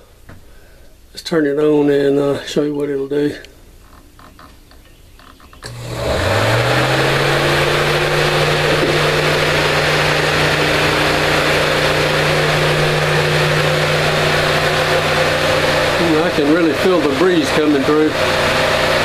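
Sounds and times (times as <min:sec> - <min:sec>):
fan humming with rush of air: 0:00.0 - 0:19.0.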